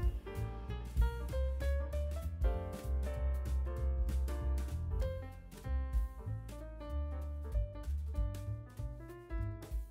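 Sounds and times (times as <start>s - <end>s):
background music with bass and beat: 0.0s - 9.9s.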